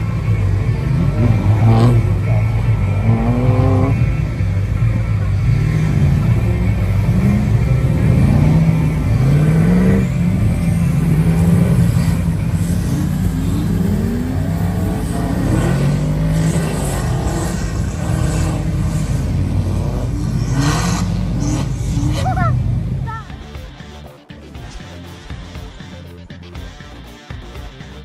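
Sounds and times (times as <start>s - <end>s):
steady low drone: 0.0s - 27.6s
off-road vehicle engines revving: 0.0s - 28.0s.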